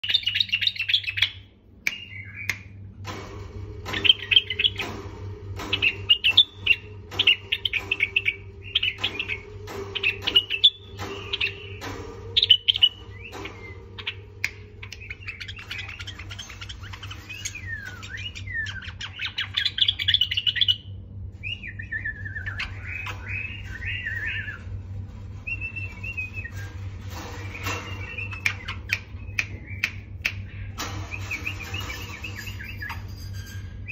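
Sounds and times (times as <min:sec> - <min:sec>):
bird singing warbled phrases: 0:00.0 - 0:02.8, 0:05.7 - 0:24.7, 0:27.3 - 0:33.0
steady low hum: 0:00.0 - 0:33.9.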